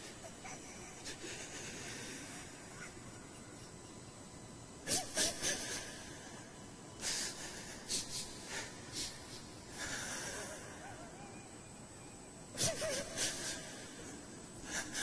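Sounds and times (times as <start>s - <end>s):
person weeping with ragged breaths: 0.0s - 3.5s, 4.8s - 6.4s, 7.0s - 11.6s, 12.5s - 15.0s.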